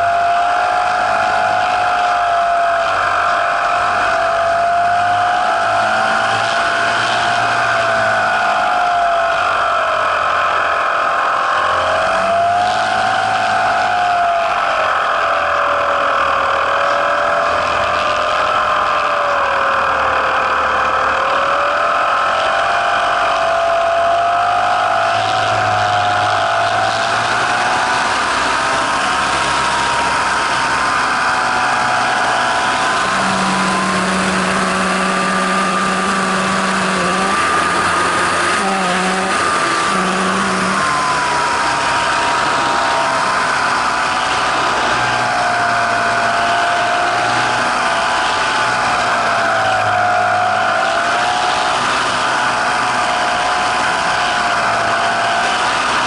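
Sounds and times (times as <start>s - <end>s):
low hum: 0.0s - 49.9s
model plane motor whining: 0.0s - 56.0s.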